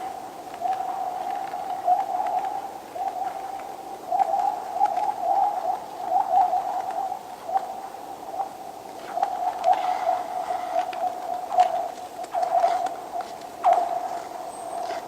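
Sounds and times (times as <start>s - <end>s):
frozen lake ice singing: 0.0s - 15.0s.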